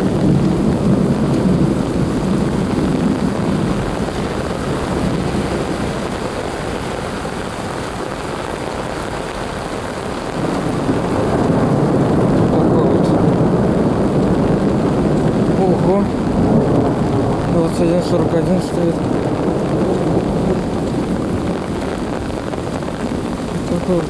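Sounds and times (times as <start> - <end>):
heavy rain falling: 0.0 - 24.0
wind gusting on microphone: 0.0 - 24.0.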